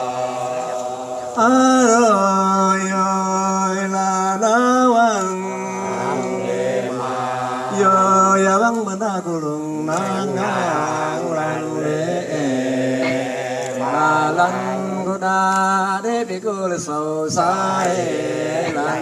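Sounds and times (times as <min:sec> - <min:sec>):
group chanting in held notes: 0:00.0 - 0:04.4, 0:05.3 - 0:09.0, 0:09.7 - 0:15.3, 0:17.2 - 0:19.0.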